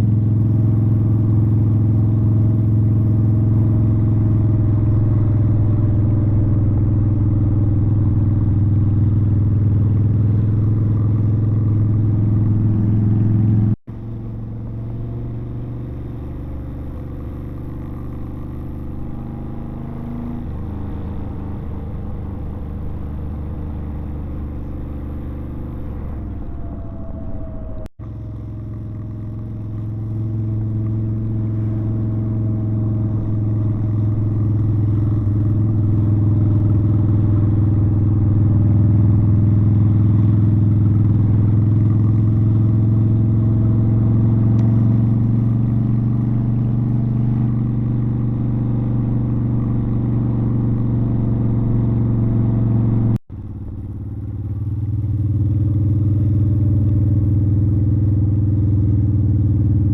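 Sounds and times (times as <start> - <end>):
motorcycle engine droning: 0.0 - 59.9.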